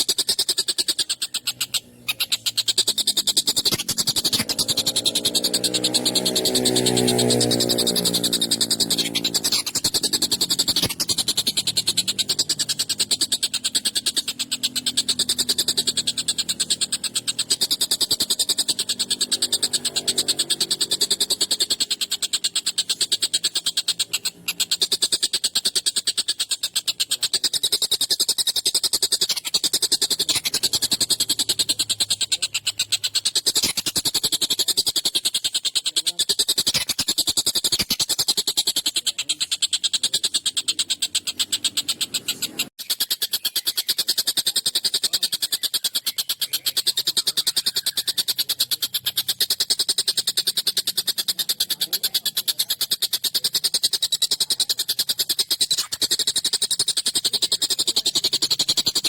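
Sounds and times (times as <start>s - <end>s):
kingfisher harsh chatter: 0.0s - 59.0s.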